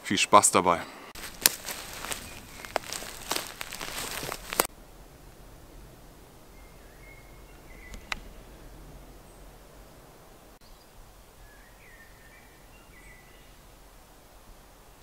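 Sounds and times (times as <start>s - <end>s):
faint birdsong: 0.8s - 15.0s.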